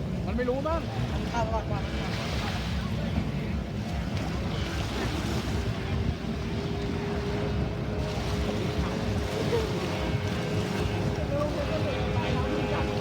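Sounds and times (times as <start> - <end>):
distant watercraft engine whine: 0.0 - 13.0
surf washing: 0.0 - 13.0
wind buffeting microphone: 0.0 - 13.0.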